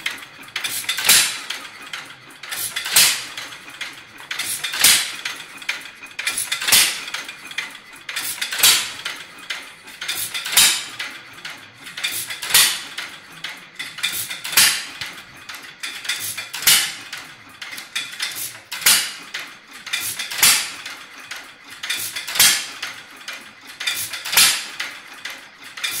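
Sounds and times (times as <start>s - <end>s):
light mechanical clicks: 0.0s - 26.0s.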